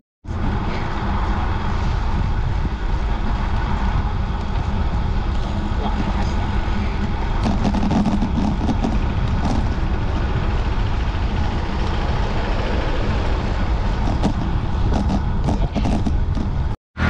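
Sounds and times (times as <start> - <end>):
bicycle tyres rolling on asphalt: 0.3 - 16.8
wind buffeting microphone: 0.3 - 16.8.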